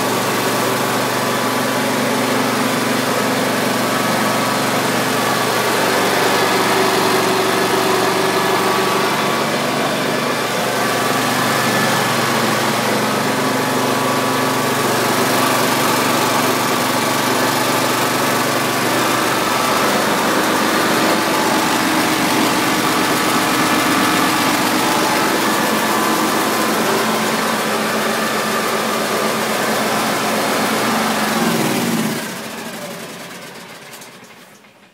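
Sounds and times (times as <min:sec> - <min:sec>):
engine running and winding down: 0:00.0 - 0:34.9.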